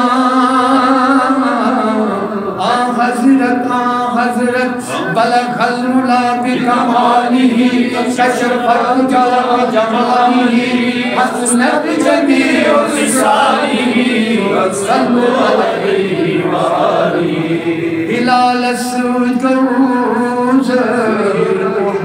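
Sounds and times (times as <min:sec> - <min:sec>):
man chanting devotional poem: 0:00.0 - 0:22.0.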